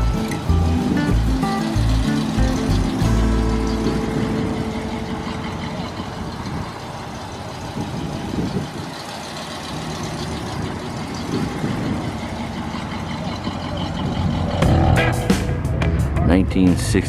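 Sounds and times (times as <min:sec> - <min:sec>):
car engine pulling away slowly: 0:00.0 - 0:17.0.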